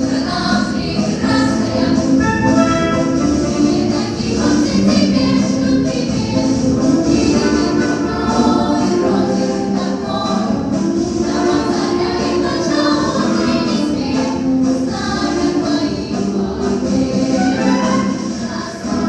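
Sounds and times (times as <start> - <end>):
choir singing a march song: 0.0 - 19.0
instrumental backing: 0.0 - 19.0.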